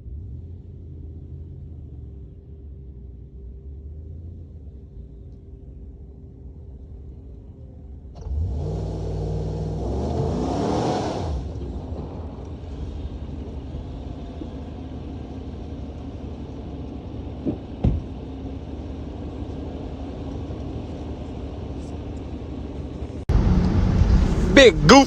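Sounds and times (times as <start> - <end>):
car engine rumble: 0.0 - 10.6, 11.4 - 25.0.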